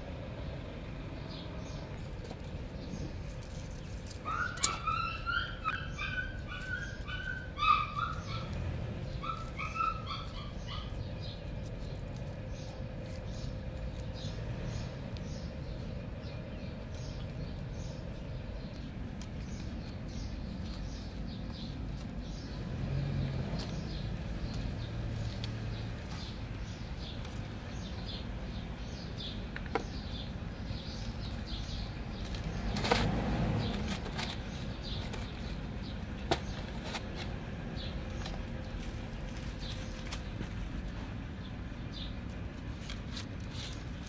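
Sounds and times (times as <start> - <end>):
outdoor hum: 0.0 - 44.0
small birds chirping: 0.1 - 44.0.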